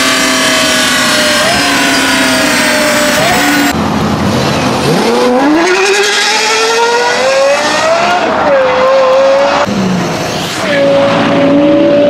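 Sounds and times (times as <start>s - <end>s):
engine revving at high rpm: 0.0s - 12.0s.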